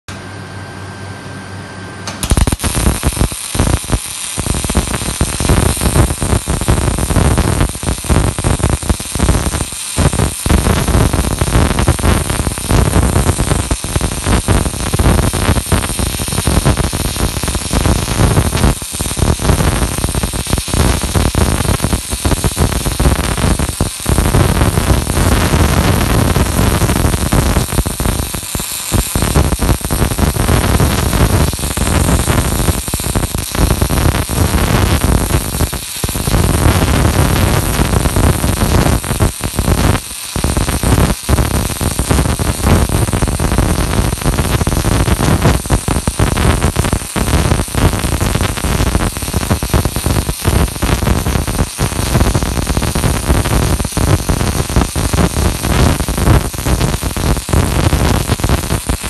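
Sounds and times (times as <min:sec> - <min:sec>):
welding arc crackling: 0:02.1 - 0:59.0.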